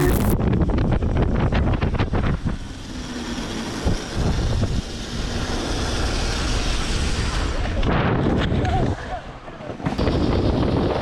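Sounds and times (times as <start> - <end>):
wind noise on microphone: 0.0 - 9.2, 9.8 - 11.0
vehicle rumble: 0.0 - 11.0.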